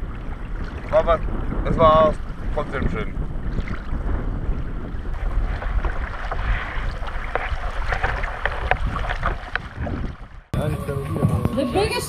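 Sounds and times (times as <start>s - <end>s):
water lapping against kayak hull: 0.0s - 10.6s
wind buffeting microphone: 0.0s - 12.0s.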